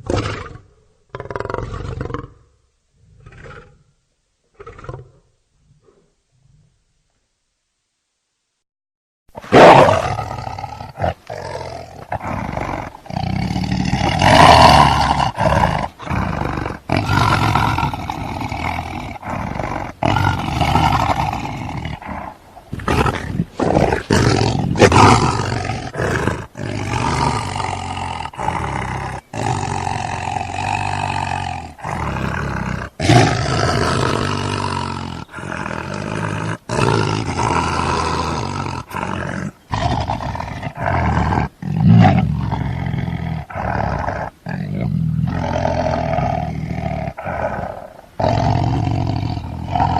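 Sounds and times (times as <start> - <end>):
lions roaring and growling: 9.4 - 49.9.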